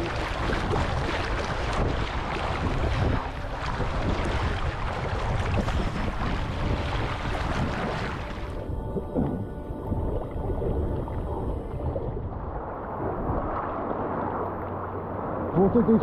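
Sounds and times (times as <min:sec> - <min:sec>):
wind on microphone: 0:00.0 - 0:15.6.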